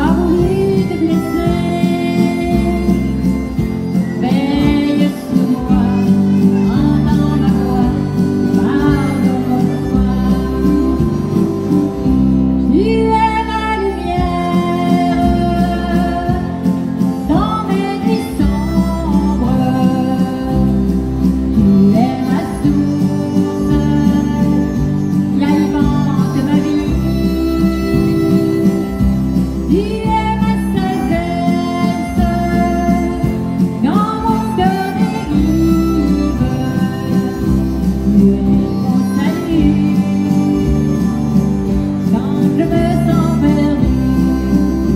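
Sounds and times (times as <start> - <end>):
harmonica: 0.0 - 44.9
steady bass line: 0.0 - 44.9
strummed acoustic guitar: 0.0 - 44.9
woman singing: 0.0 - 44.9.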